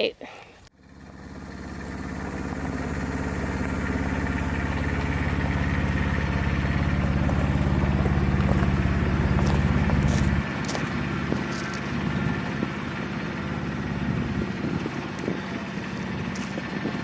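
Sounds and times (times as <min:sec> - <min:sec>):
small engine running: 0:00.7 - 0:17.0.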